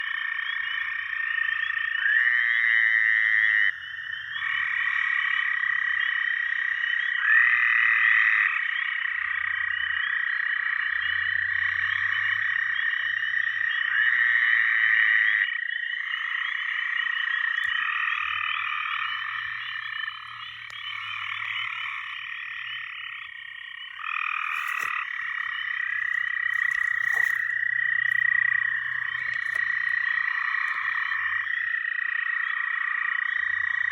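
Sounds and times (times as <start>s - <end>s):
chorus of frogs calling: 0.0s - 33.9s.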